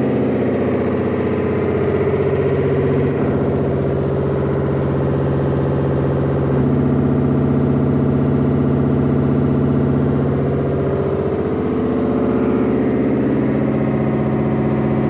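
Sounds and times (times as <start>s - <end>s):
washing machine spin cycle pulsing: 0.0s - 15.0s.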